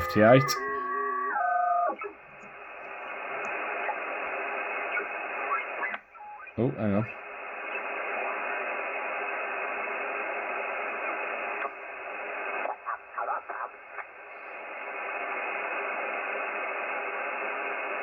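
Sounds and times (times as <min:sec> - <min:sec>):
radio receiver hiss: 0:00.0 - 0:18.0
short radio fragments: 0:00.0 - 0:18.0.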